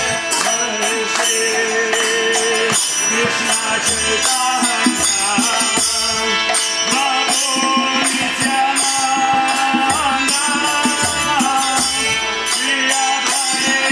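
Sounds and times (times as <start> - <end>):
percussion music with melody: 0.0 - 13.9.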